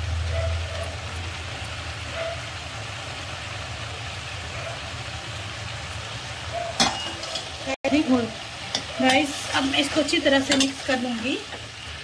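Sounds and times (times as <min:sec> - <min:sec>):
chicken sizzling in a pan: 0:00.0 - 0:12.0
stove burner hum: 0:00.0 - 0:12.0.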